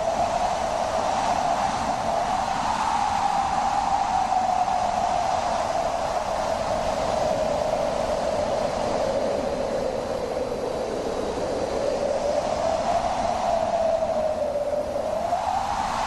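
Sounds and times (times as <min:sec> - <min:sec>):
wind howling: 0:00.0 - 0:16.0.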